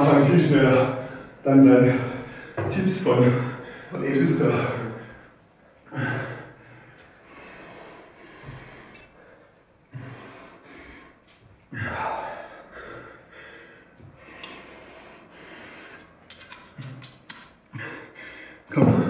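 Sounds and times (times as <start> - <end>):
heavy breathing: 0.0 - 17.0, 17.6 - 19.0.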